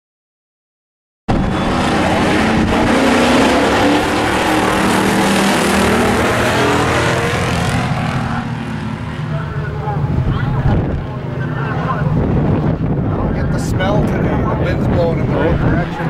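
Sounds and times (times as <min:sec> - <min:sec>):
race car engines racing: 0:01.3 - 0:16.0.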